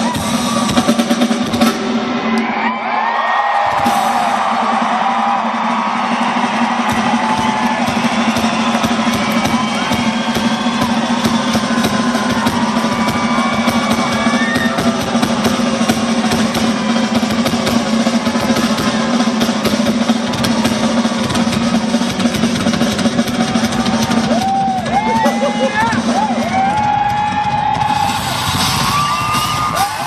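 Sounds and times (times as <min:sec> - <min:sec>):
fast drum solo: 0:00.0 - 0:02.2, 0:03.6 - 0:30.0.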